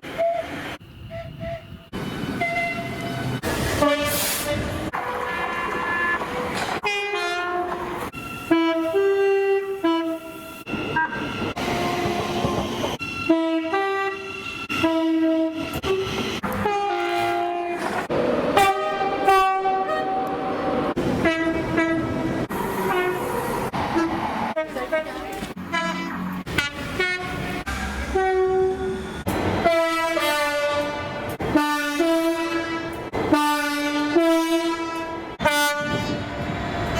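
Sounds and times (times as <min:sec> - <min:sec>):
two-tone train horns: 0:00.0 - 0:36.5.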